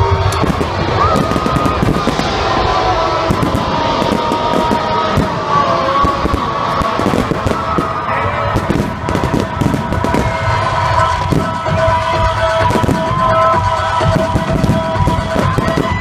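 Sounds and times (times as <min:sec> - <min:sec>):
fireworks bangs and crackles: 0:00.0 - 0:16.0
music with long held notes: 0:00.0 - 0:16.0.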